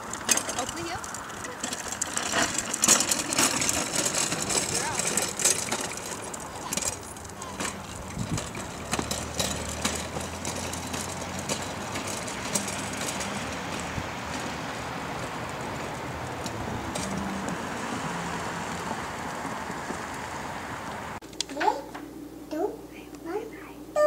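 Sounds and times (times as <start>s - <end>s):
wagon wheels rolling on concrete: 0.0s - 21.2s.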